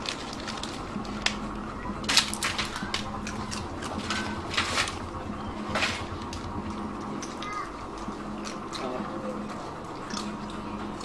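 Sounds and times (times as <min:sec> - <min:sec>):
dogs crunching biscuits: 0:00.0 - 0:11.0
steady low hum: 0:00.0 - 0:11.0.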